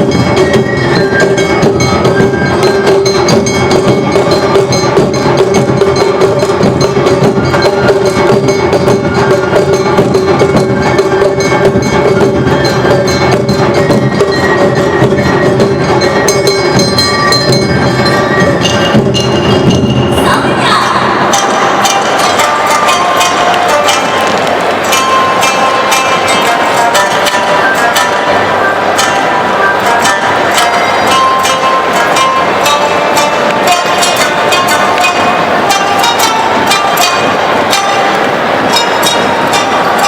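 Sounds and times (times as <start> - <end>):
hand gong: 0.0 - 40.0
held melodic line: 0.0 - 40.0
taiko drums: 0.0 - 40.0.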